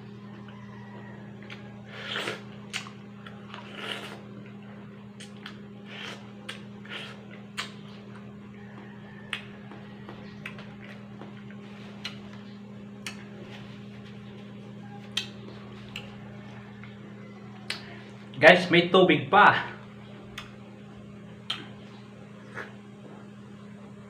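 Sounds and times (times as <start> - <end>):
low steady hum: 0.0 - 24.0
person chewing melon: 0.1 - 18.4, 19.8 - 23.4.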